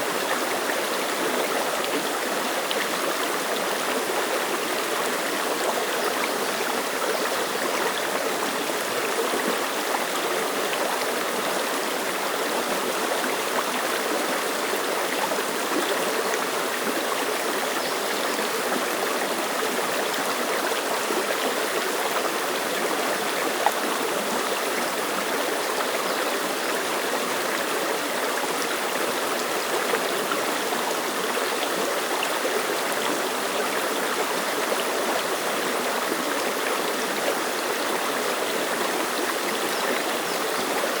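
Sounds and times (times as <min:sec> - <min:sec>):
stream splashing over rocks: 0:00.0 - 0:41.0.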